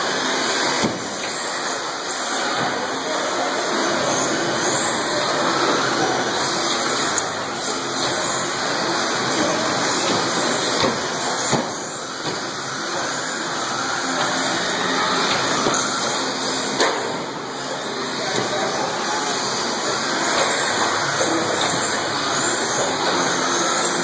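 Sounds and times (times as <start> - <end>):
motor whines: 0.0 - 24.0
rc truck motors and tyres: 0.0 - 24.0.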